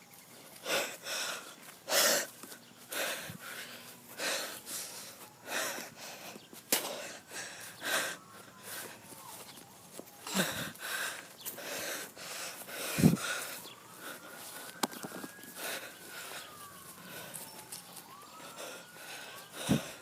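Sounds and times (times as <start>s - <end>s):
person breathing heavily: 0.4s - 9.1s, 10.2s - 17.5s, 18.4s - 20.0s.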